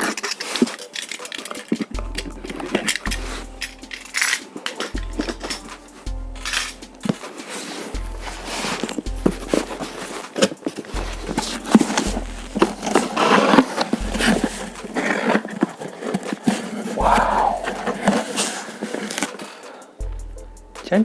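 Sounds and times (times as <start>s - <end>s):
packaging rustling: 0.0s - 5.9s, 6.6s - 19.9s.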